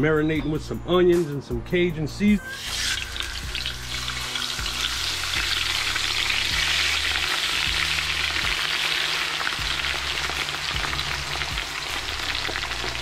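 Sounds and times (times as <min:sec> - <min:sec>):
meat sizzling in hot oil: 0:02.5 - 0:13.0.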